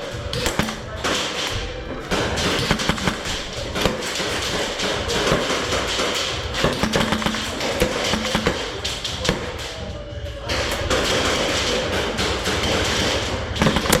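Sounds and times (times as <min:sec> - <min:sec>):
airsoft gunshots: 0:00.0 - 0:14.0
background music: 0:00.0 - 0:14.0
pellets striking walls: 0:00.0 - 0:14.0.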